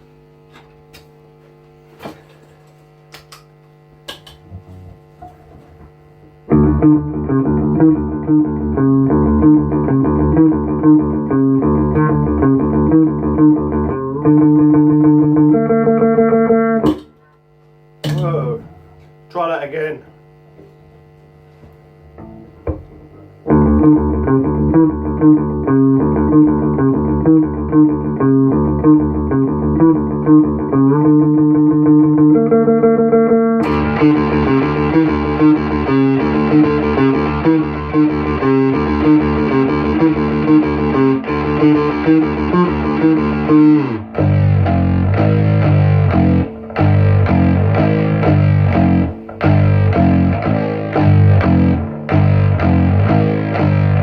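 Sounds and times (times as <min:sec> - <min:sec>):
low amp hum: 0:00.0 - 0:54.0
electric bass playing: 0:04.1 - 0:19.2, 0:21.8 - 0:54.0.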